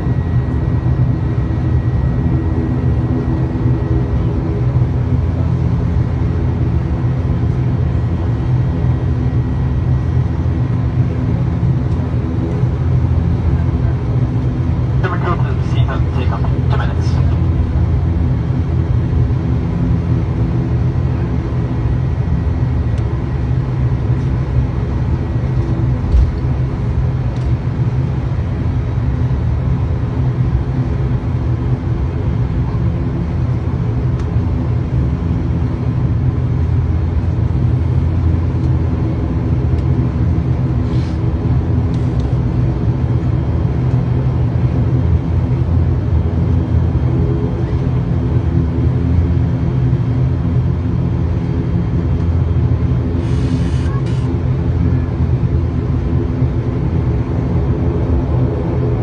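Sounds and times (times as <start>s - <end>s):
multi-tone hum: 0.0s - 59.0s
turboprop engines droning: 0.0s - 59.0s.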